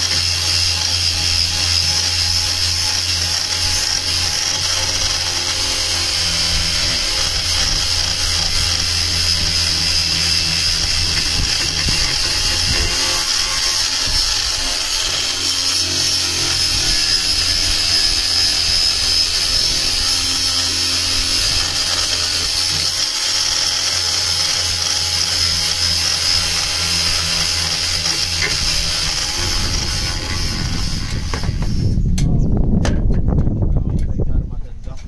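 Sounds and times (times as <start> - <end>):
angle grinder grinding: 0.0 - 32.1.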